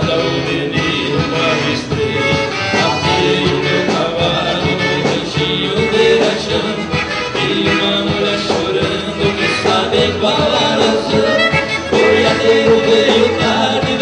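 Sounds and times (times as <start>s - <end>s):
drums steady beat: 0.0s - 14.0s
guitar: 0.0s - 14.0s
men singing: 0.0s - 14.0s.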